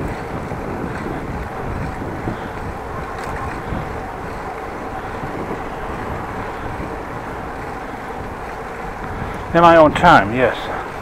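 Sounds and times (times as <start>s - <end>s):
road traffic: 0.0s - 11.0s
wind: 0.0s - 11.0s.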